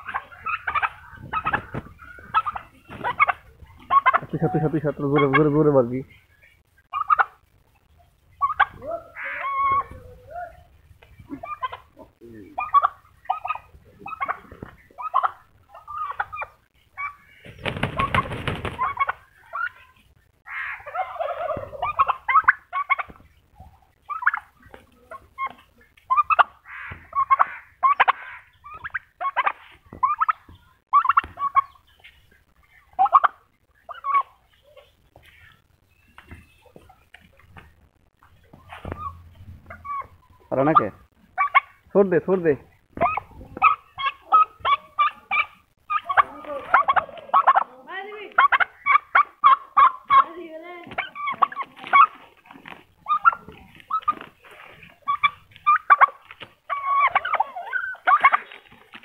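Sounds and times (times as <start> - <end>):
turkeys calling: 0.0 - 59.0.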